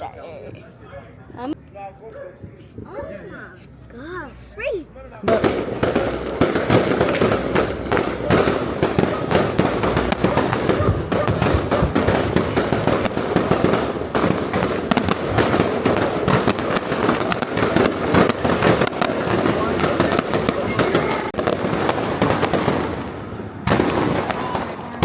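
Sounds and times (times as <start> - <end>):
fireworks crackling and banging: 4.6 - 25.0.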